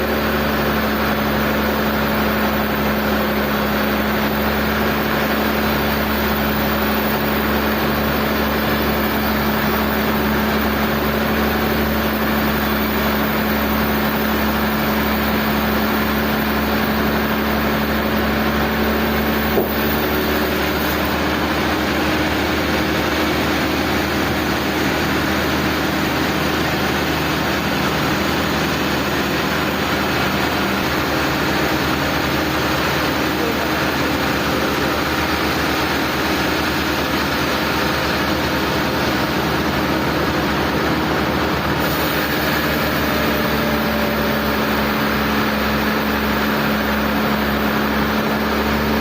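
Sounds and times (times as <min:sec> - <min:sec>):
sawmill machinery humming: 0:00.0 - 0:49.0.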